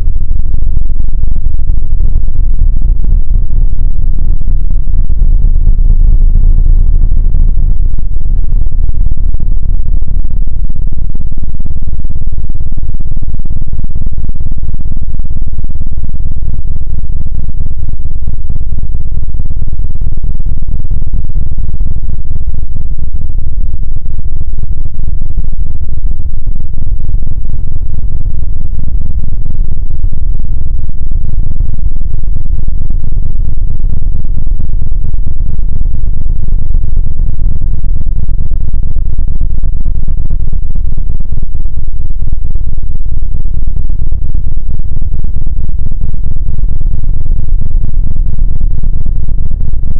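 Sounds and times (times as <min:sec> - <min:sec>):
slowed distorted low noise: 0:00.0 - 0:49.9.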